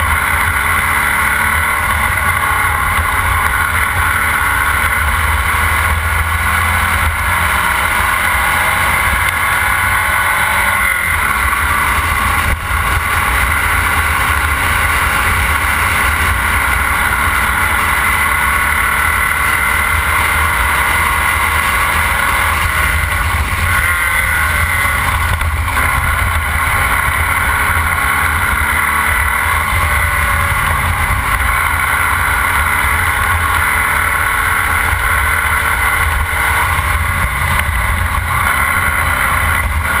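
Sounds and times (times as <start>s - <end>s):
race car engine running hard: 0.0s - 40.0s.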